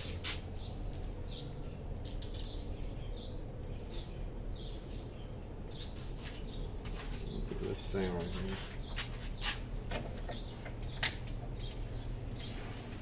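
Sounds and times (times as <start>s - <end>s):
small bird chirping: 0.0s - 9.6s, 10.2s - 12.8s.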